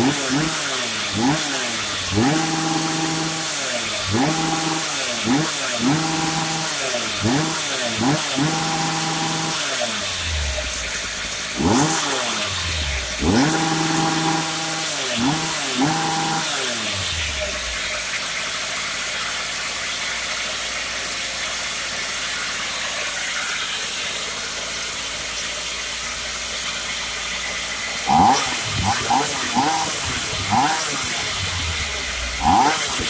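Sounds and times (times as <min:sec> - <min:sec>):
concrete cutter engine revving: 0:00.0 - 0:33.0.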